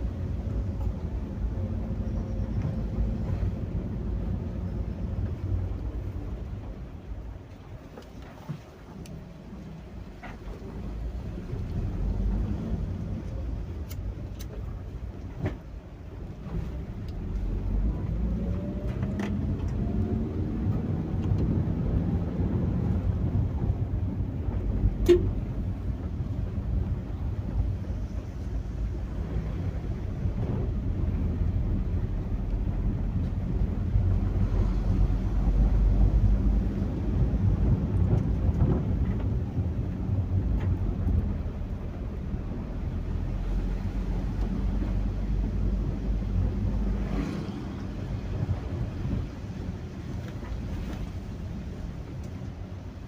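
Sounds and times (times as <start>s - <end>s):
rain: 0.0s - 53.0s
wind buffeting microphone: 0.0s - 53.0s.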